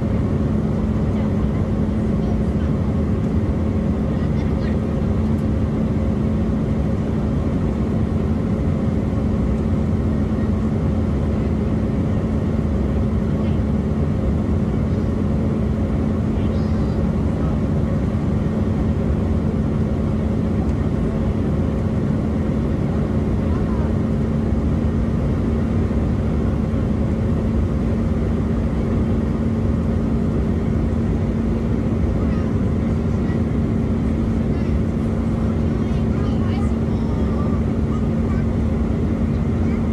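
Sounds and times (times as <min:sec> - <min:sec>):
airliner cabin engine rumble: 0:00.0 - 0:39.9
constant low hum: 0:00.0 - 0:39.9.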